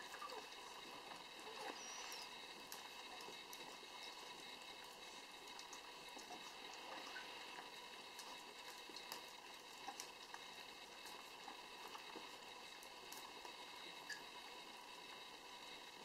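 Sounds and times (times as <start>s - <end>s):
dogs eating with wet smacking: 0.0s - 14.4s.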